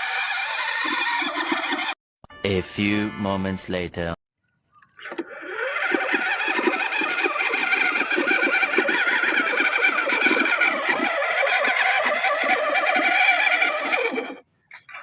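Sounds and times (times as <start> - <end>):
tractor engine pulsing: 0.0 - 2.0, 4.8 - 15.0.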